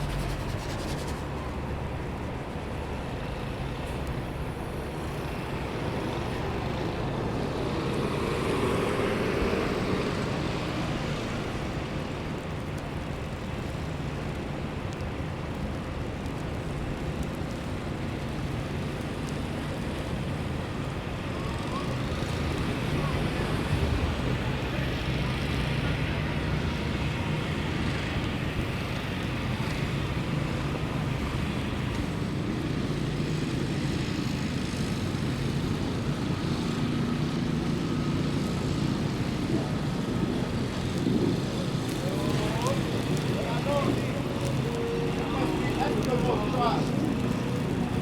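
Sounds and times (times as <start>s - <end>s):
city street traffic rumble: 0.0s - 48.0s.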